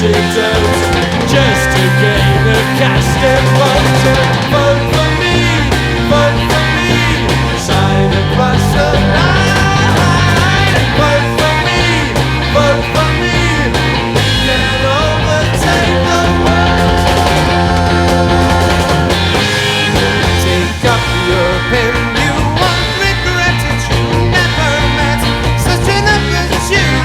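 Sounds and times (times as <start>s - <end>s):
gliding electric guitar lead: 0.0s - 27.0s
psychedelic rock band playing: 0.0s - 27.0s.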